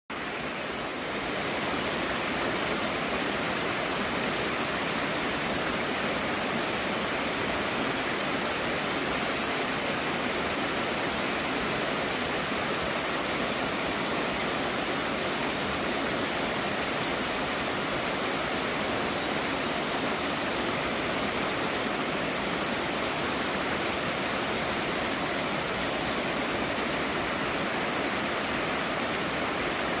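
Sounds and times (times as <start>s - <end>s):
waterfall rushing: 0.2s - 30.0s.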